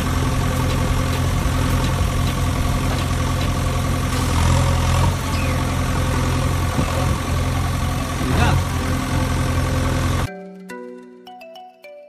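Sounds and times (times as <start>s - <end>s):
tractor engine idling: 0.0s - 10.3s.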